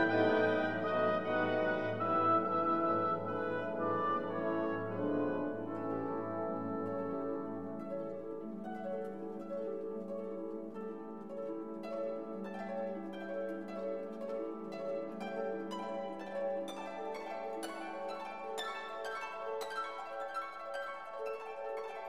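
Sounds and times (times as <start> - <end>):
held low orchestral tones: 0.0 - 22.0.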